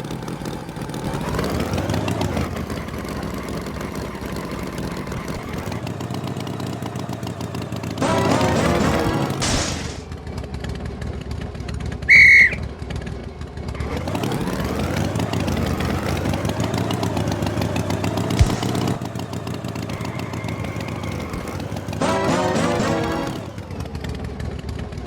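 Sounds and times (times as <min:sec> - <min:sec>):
cartoon tractor engine revving: 0:00.0 - 0:25.0.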